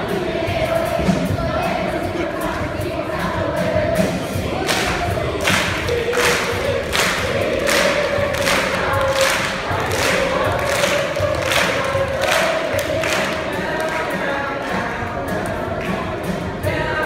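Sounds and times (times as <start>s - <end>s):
children's choir singing: 0.0s - 17.0s
steady percussive beat: 0.0s - 17.0s.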